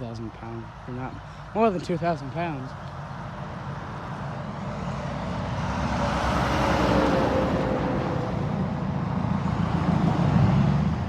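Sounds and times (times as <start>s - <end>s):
truck driving past: 1.0s - 11.0s.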